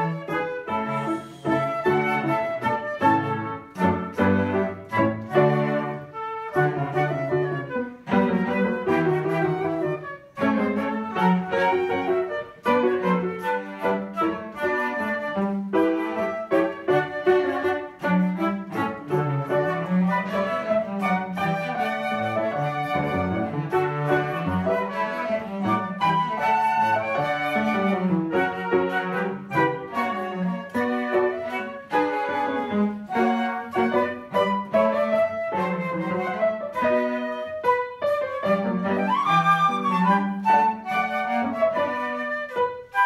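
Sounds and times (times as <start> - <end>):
cello playing: 0.0 - 43.0
flutes playing melody: 0.0 - 43.0.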